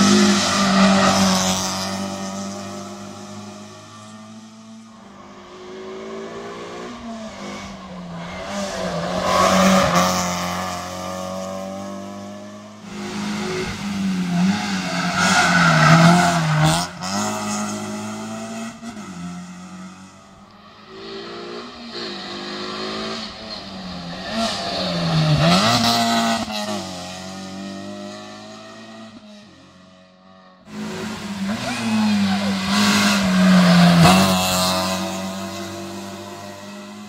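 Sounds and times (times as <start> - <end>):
rally car engine revving: 0.0 - 29.5, 30.7 - 37.0.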